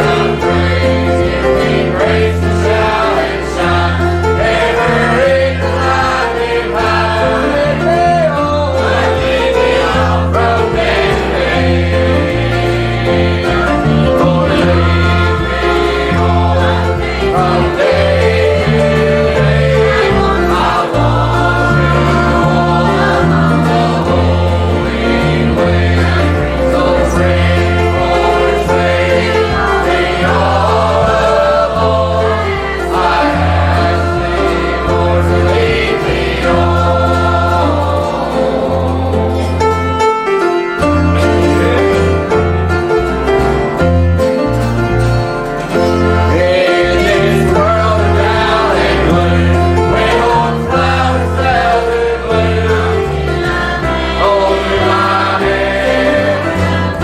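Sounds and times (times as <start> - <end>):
choir singing gospel: 0.0 - 57.0
instrumental accompaniment with bass: 0.0 - 57.0.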